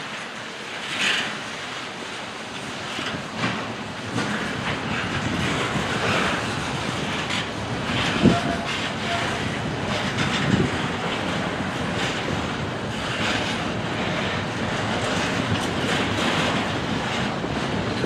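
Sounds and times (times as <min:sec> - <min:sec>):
freight train rumble: 0:00.0 - 0:18.0
train wheels clicking over rail joints: 0:00.0 - 0:18.0.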